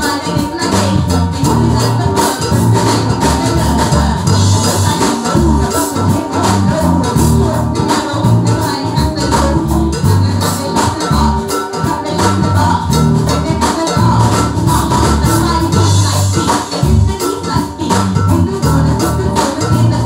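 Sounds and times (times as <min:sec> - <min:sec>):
bass line: 0:00.0 - 0:20.0
keyboard: 0:00.0 - 0:20.0
person singing: 0:00.0 - 0:20.0.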